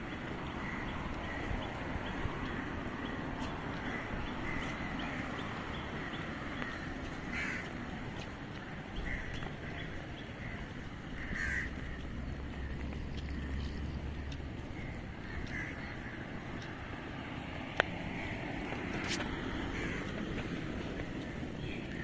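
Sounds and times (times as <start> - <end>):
birds calling: 0.0 - 22.0
low engine hum: 0.0 - 22.0
road traffic rumble: 0.0 - 22.0.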